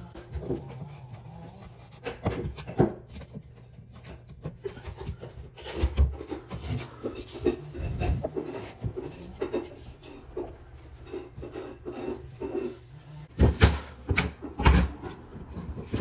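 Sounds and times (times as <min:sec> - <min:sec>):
wood planks scraping: 0:00.0 - 0:16.0.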